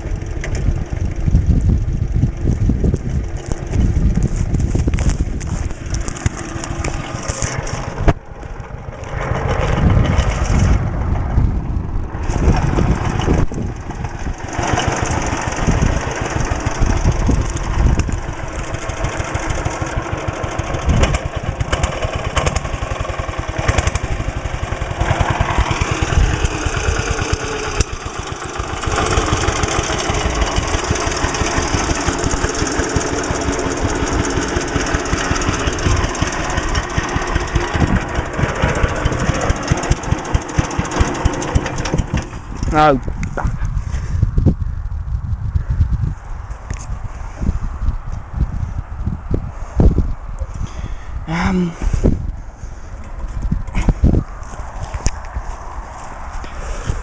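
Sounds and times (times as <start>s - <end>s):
single-cylinder engine running: 0.0s - 57.0s.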